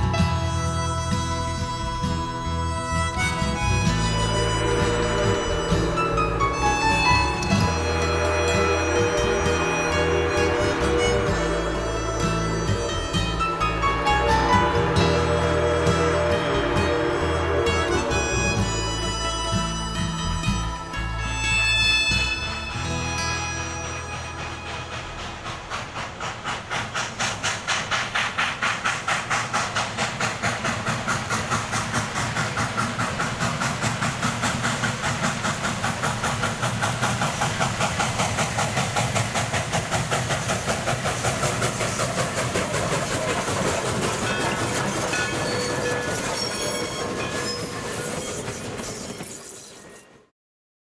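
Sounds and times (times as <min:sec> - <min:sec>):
steam hissing: 0:00.0 - 0:50.3
steam locomotive chuffing: 0:00.0 - 0:50.3.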